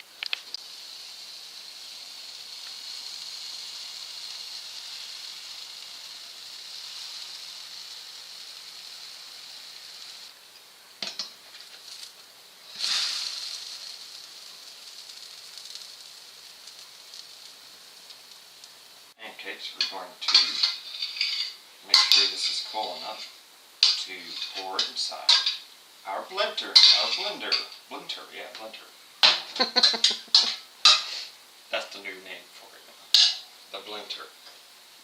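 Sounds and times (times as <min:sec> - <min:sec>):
batter sizzling in a frying pan: 0:00.0 - 0:35.0.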